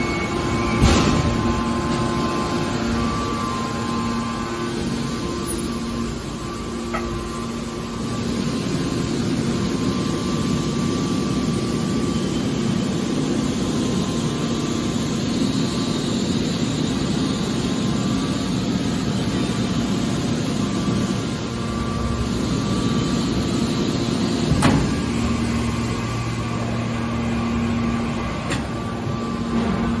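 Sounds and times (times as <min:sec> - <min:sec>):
baler machine humming: 0:00.0 - 0:30.0.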